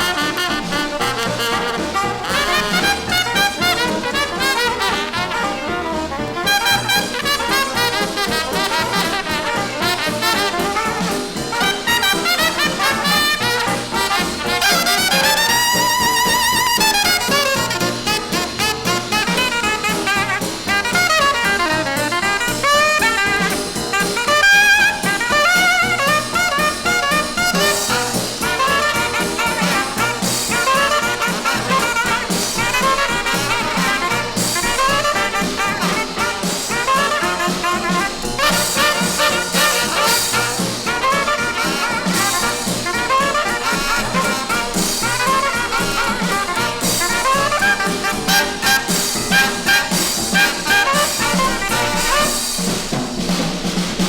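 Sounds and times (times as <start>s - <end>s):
jazz music with brass: 0.0s - 54.0s.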